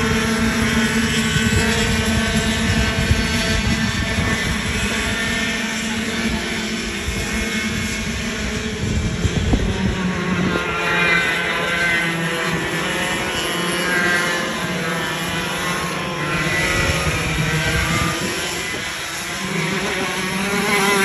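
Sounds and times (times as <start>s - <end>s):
go-kart engines buzzing: 0.0s - 21.0s.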